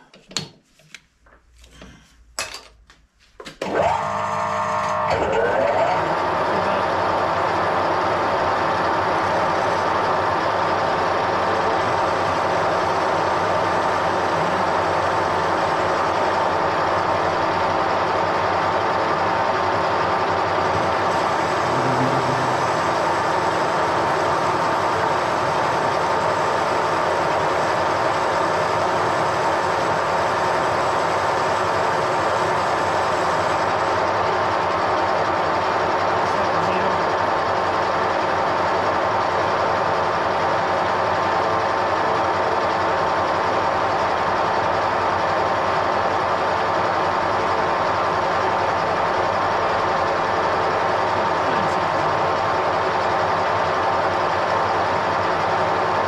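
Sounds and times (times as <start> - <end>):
metal lathe running: 3.6 - 56.0.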